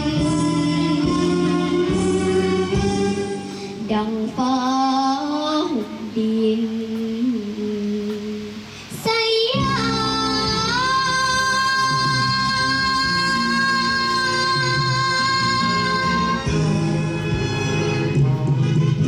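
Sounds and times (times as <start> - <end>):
girl singing into a microphone: 0.0 - 17.0
backing music: 0.0 - 19.0.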